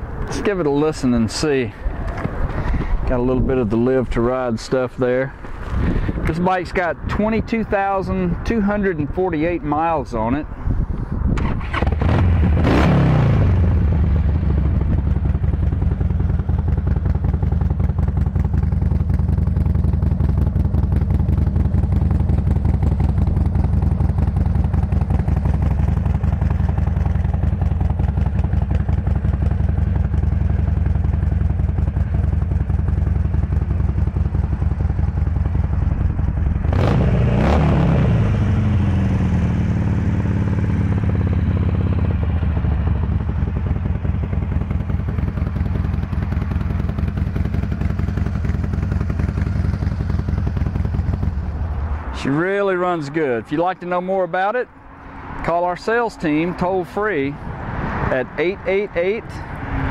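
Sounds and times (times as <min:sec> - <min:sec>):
motorcycle engine idling and revving: 0:00.0 - 0:10.2, 0:10.8 - 0:59.9.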